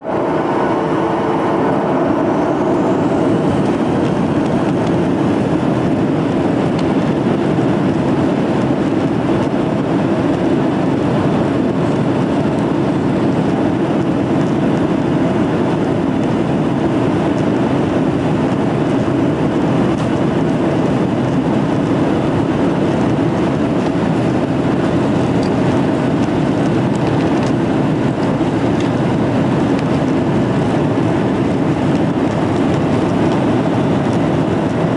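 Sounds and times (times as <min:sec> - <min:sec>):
airliner engines rumbling: 0:00.0 - 0:34.9.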